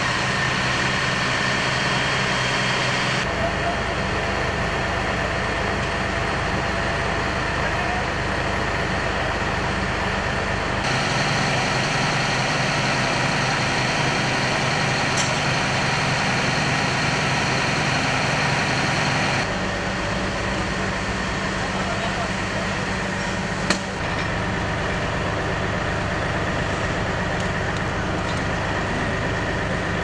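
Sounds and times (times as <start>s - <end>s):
fire truck engine running: 0.0s - 30.0s.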